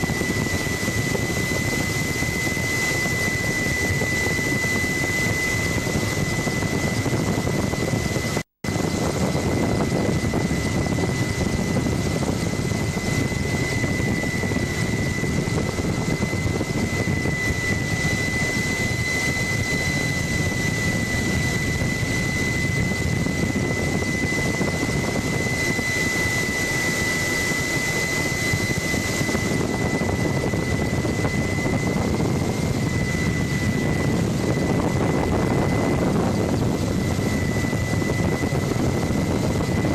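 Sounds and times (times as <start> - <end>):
constant high whine: 0.0 - 39.9
helicopter engine and rotor: 0.0 - 39.9.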